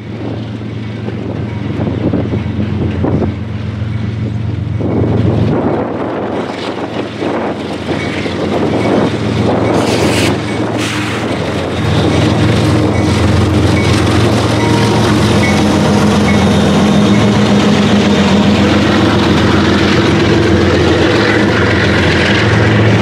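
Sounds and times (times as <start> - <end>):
diesel locomotive engine droning: 0.0 - 23.0
train wheels rumbling: 0.0 - 23.0
wheels clacking over rail joints: 0.0 - 23.0.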